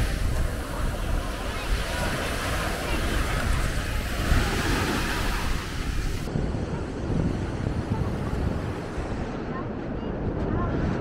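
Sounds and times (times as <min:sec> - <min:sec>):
surf breaking on shore: 0:00.0 - 0:09.6
wind rumbling on microphone: 0:00.0 - 0:11.0.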